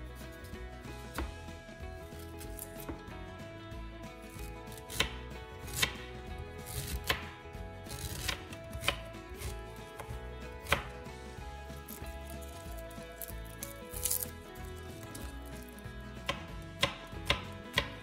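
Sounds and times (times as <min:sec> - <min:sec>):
knife chopping on wooden board: 0:00.4 - 0:03.1, 0:04.2 - 0:18.0.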